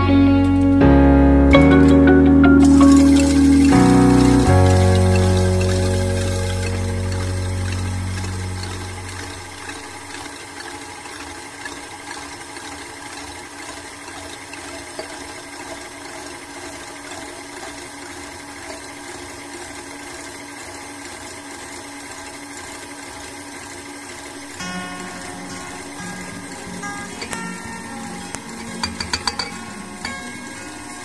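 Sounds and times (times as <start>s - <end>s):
stand mixer whipping in metal bowl: 2.7s - 24.4s, 26.5s - 31.0s.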